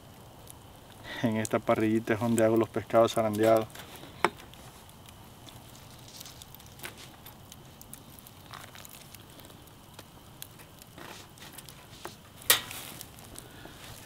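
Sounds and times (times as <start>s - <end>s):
charcoal grill crackling: 0.0s - 14.0s.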